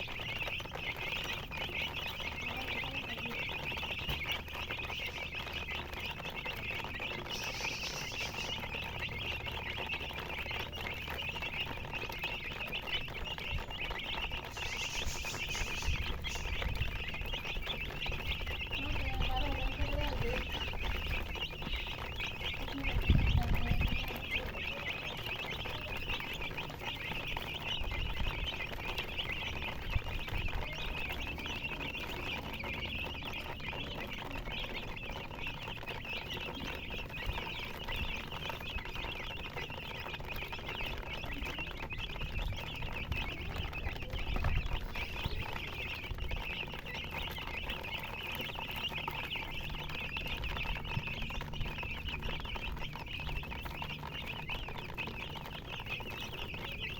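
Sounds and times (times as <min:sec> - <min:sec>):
baby chicks peeping: 0:00.0 - 0:56.9
dull low bumps: 0:00.0 - 0:56.9.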